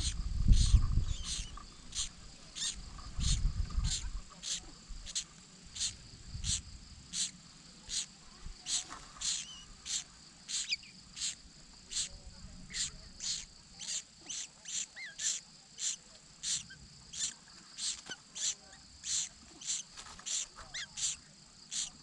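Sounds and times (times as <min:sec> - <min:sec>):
faint bird calls: 0:00.0 - 0:22.0
insect chirps: 0:00.0 - 0:22.0
insect drone: 0:00.0 - 0:22.0.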